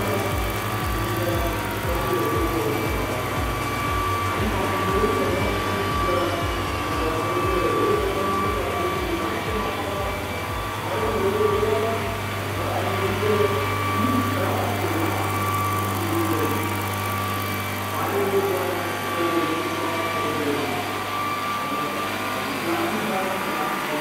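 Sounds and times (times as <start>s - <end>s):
electric motor whine: 0.0s - 24.0s
model helicopter rotors humming: 0.0s - 24.0s.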